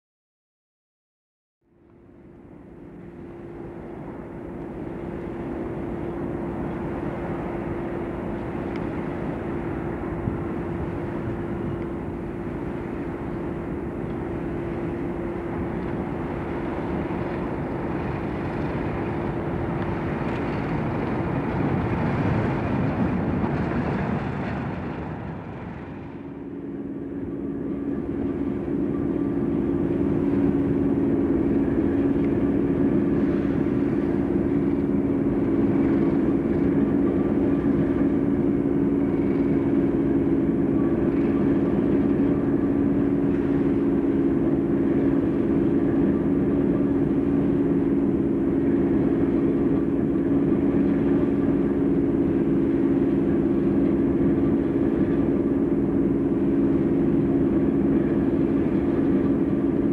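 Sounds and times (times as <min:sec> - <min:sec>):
diesel locomotive engine humming: 0:01.6 - 0:59.9.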